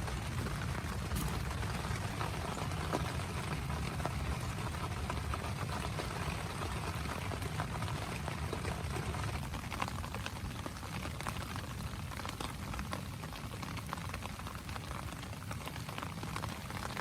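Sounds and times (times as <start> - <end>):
heavy rain on tent fabric: 0.0 - 17.0.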